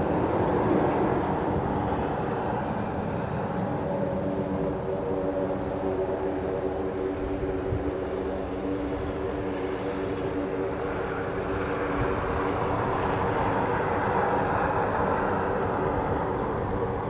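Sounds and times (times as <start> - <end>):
propeller hum: 0.0 - 17.0
rushing noise: 0.0 - 17.0.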